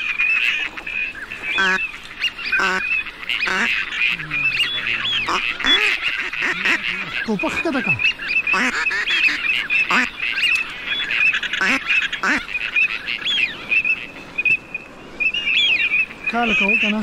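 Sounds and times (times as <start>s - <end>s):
ducks chirping: 0.0s - 17.0s
lower falling duck calls: 0.4s - 14.6s.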